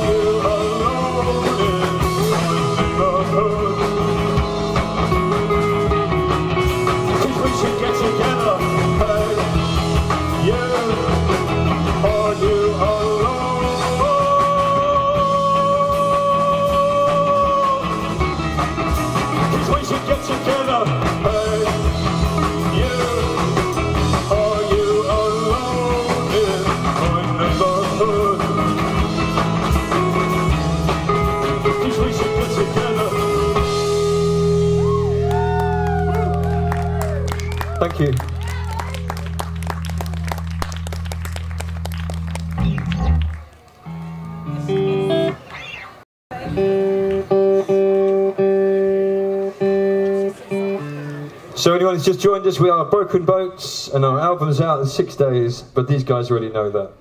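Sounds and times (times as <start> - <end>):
rock band playing live: 0.0 - 53.2.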